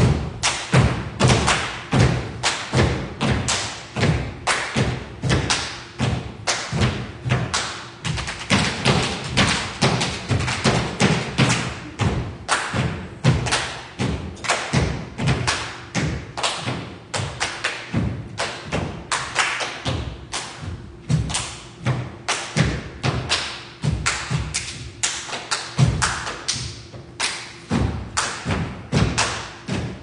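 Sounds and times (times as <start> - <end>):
percussion thumps and hits: 0.0 - 19.0, 19.8 - 24.9, 25.8 - 26.2, 26.8 - 30.0.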